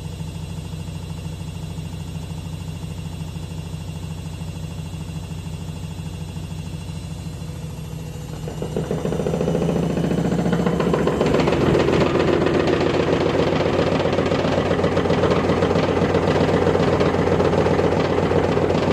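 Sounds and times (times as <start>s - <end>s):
washing machine spinning with rattle: 0.0s - 18.9s.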